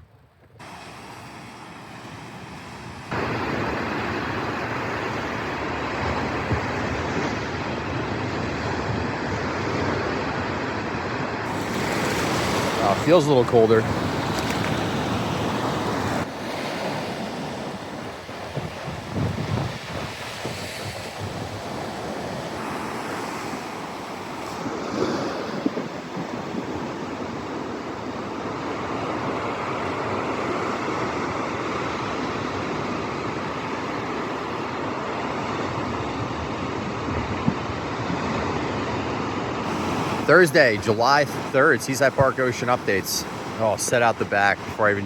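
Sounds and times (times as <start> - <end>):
ocean surf breaking: 0.6 - 45.0
wind buffeting microphone: 0.6 - 45.0.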